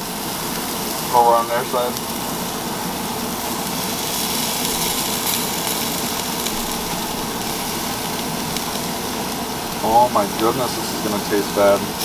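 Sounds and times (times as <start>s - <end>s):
meat sizzling on a grill: 0.0s - 12.0s
faint crackles: 0.2s - 12.0s.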